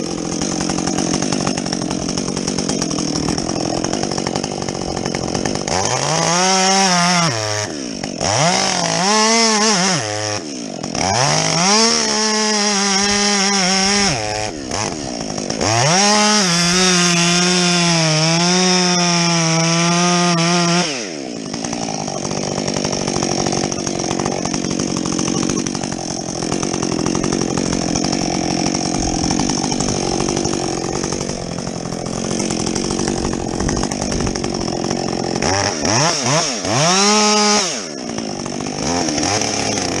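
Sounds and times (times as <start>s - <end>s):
chainsaw cutting wood: 0.0s - 40.0s
chainsaw idling: 0.0s - 40.0s.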